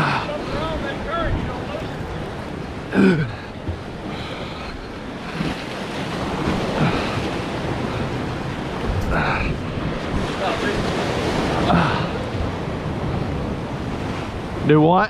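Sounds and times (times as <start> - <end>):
surf breaking against rocks: 0.0 - 14.9
wind buffeting microphone: 0.0 - 14.9.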